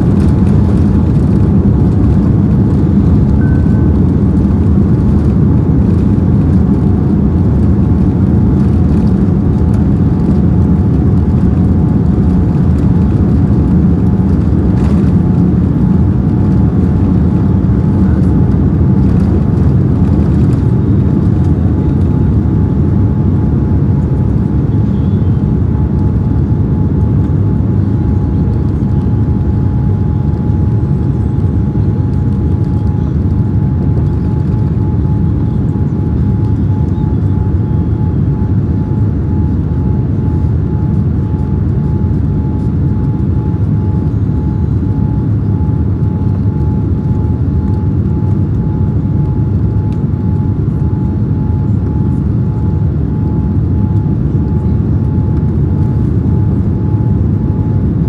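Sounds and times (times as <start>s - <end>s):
jet engines deep rumble: 0.0s - 58.0s
thin steady whine: 0.0s - 58.0s
wheels rumbling on runway: 0.0s - 58.0s.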